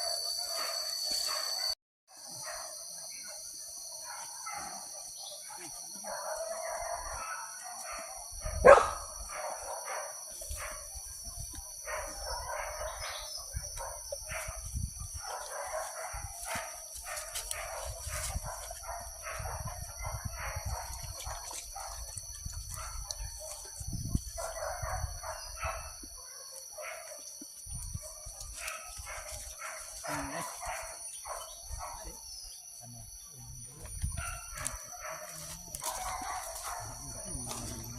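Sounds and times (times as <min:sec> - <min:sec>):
dogs barking and baying: 0:00.0 - 0:32.5, 0:33.1 - 0:37.9.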